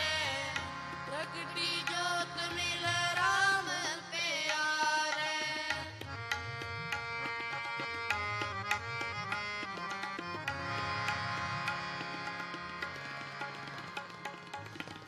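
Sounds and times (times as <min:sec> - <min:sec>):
harmonium chords: 0:00.0 - 0:15.0
tabla strokes: 0:00.0 - 0:15.0.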